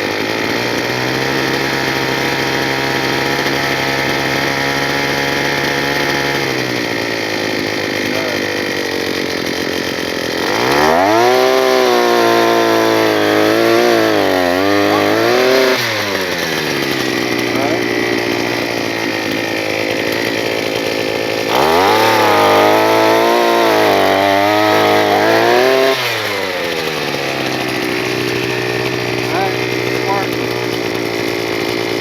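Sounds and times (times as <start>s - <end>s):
earth auger engine running: 0.0s - 32.0s.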